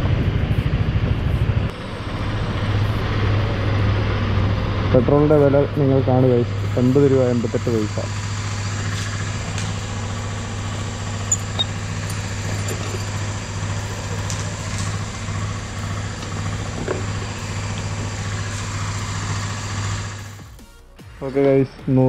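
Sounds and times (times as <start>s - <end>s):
scooter engine idling: 0.0s - 20.6s.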